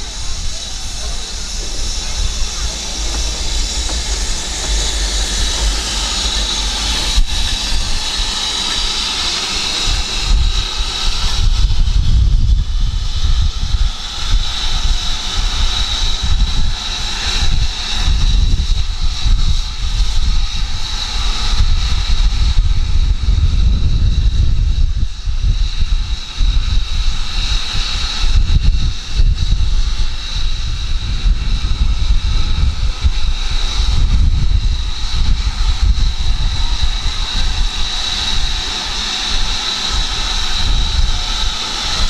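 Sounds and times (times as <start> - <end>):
steady mechanical roar: 0.0 - 42.0
wind buffeting microphone: 0.0 - 42.0.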